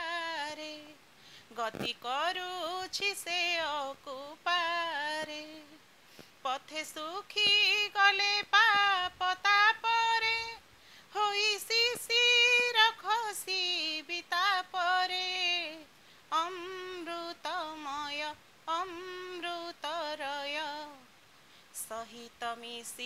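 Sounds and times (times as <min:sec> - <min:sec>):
woman singing unaccompanied: 0:00.0 - 0:23.0.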